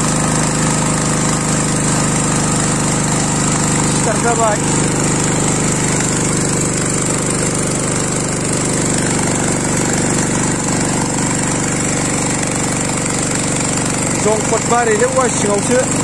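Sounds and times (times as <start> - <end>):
petrol water pump running: 0.0 - 16.0
water gushing from pipe: 0.0 - 16.0.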